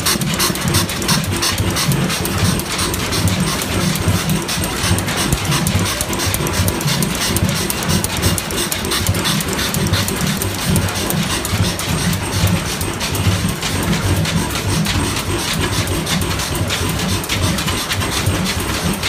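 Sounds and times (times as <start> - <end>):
clatter of valve gear: 0.0 - 19.0
stationary engines running: 0.0 - 19.0.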